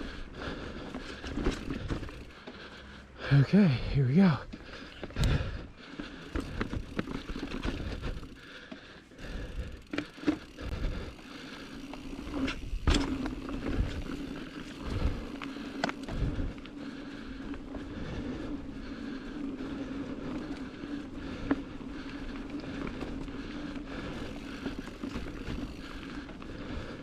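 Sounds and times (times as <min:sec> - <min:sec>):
bike knocking and rattling: 0:00.0 - 0:02.9, 0:04.5 - 0:27.0
bike tyres rolling on dirt: 0:00.0 - 0:27.0
constant hum: 0:00.0 - 0:27.0.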